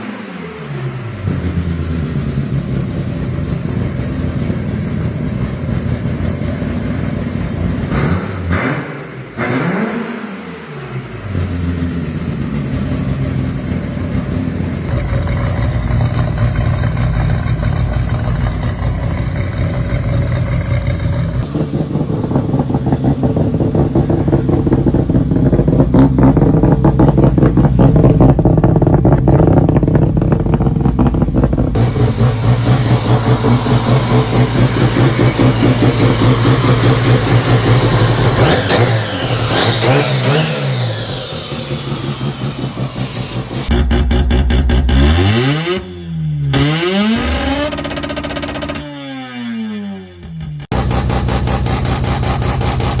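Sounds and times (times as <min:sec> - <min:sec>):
rotary engine idling and revving: 0:00.0 - 0:53.0.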